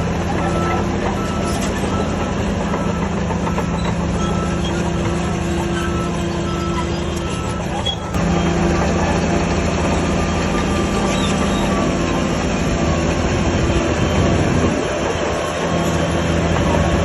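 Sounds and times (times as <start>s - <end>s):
bulldozer diesel engine running: 0.0s - 17.0s
steel tracks clanking and squealing: 0.0s - 17.0s.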